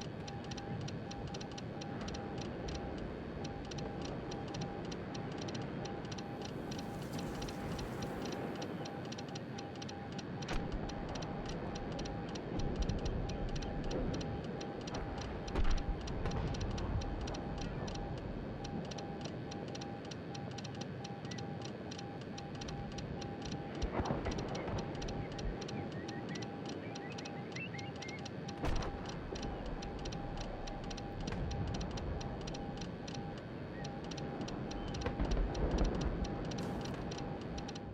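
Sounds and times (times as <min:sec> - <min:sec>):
background hiss and rumble: 0:00.0 - 0:37.9
morse code beeps: 0:00.0 - 0:37.9
fast even ticking: 0:00.2 - 0:37.9.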